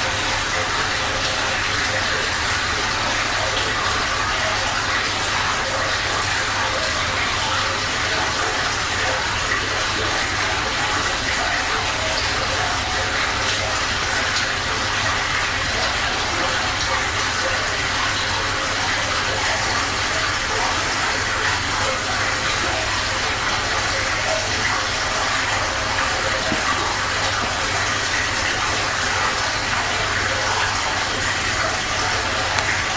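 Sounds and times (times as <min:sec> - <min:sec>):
aquarium filter water rushing: 0:00.0 - 0:32.9.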